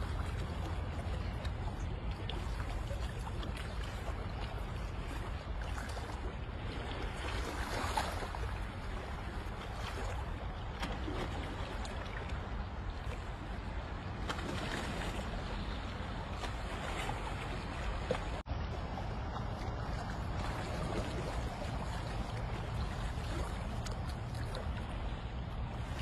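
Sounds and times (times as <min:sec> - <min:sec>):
sea water sloshing and splashing: 0:00.0 - 0:26.0
wind rumbling on microphone: 0:00.0 - 0:26.0.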